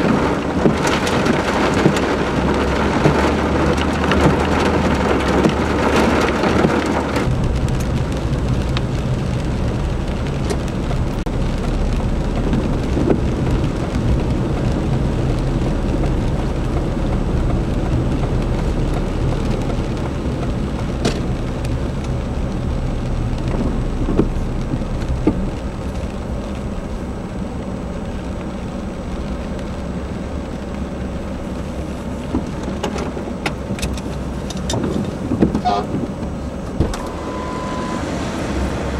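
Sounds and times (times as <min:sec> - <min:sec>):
low rumble: 0:00.0 - 0:34.3
heavy rain: 0:00.0 - 0:38.9.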